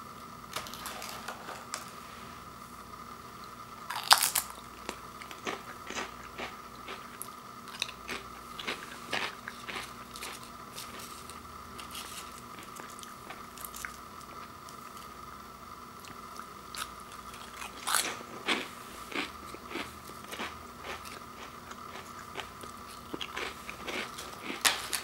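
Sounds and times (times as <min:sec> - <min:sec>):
potato chips crunching: 0:03.9 - 0:15.1, 0:16.0 - 0:25.0.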